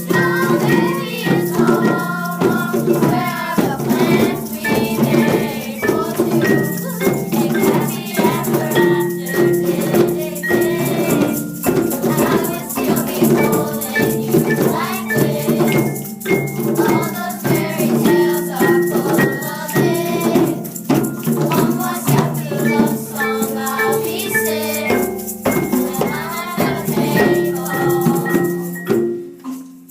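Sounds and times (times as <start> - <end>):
song with singing and beat: 0.0 - 29.3.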